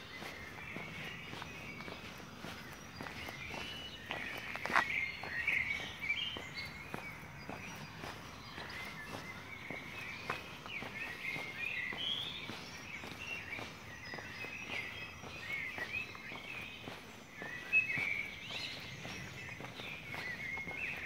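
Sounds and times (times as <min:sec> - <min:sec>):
faint footsteps on pavement: 0:00.0 - 0:21.0
songbirds chirping: 0:00.0 - 0:21.0.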